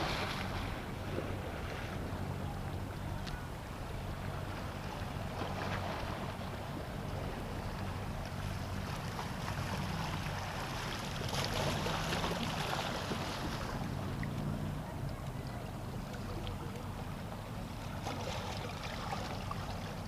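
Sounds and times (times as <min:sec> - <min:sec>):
sea water washing and splashing: 0:00.0 - 0:14.5, 0:15.4 - 0:20.0
low steady engine hum: 0:00.0 - 0:20.0.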